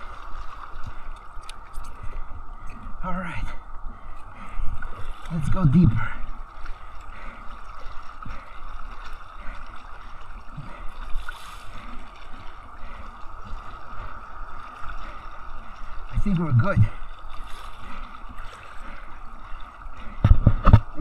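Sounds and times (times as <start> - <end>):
steady water hiss: 0.0 - 21.0
water sloshing against kayak hull: 0.0 - 21.0.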